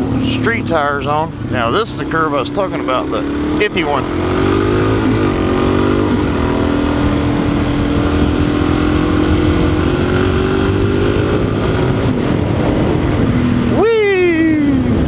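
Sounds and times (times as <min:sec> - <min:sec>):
low rumble of wind and road: 0:00.0 - 0:15.0
motorcycle engine running: 0:00.0 - 0:15.0.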